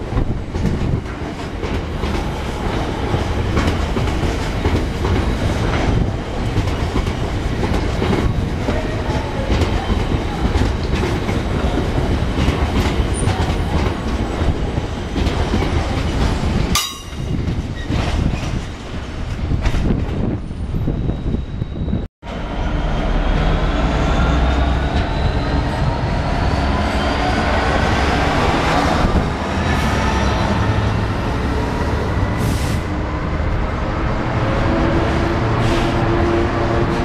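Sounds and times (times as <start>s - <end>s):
freight train rumbling: 0.0s - 37.0s.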